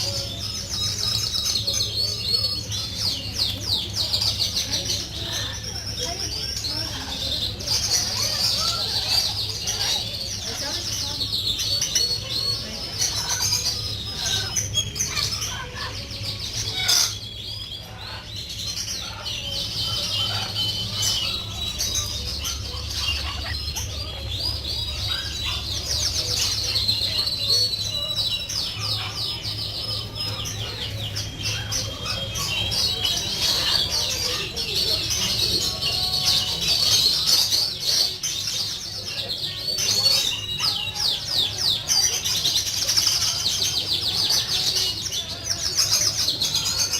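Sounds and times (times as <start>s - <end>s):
caged birds chirping: 0.0s - 46.9s.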